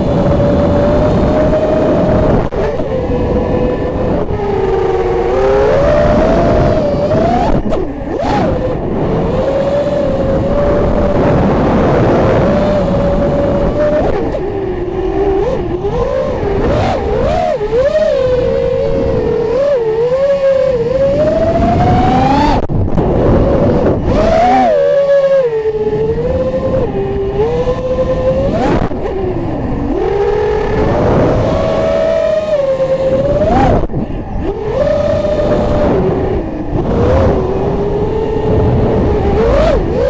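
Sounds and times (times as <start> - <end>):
drone motors whining: 0.0 - 40.0
wind rushing: 0.0 - 40.0.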